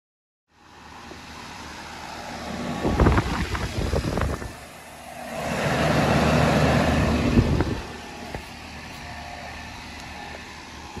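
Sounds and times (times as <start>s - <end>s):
air conditioner unit humming: 1.5s - 11.0s.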